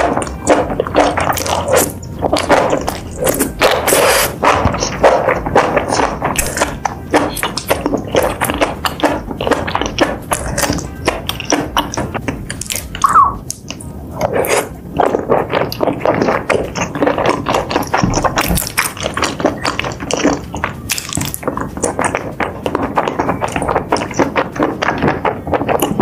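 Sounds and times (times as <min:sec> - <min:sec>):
wet chewing and mouth smacking: 0:00.0 - 0:26.0.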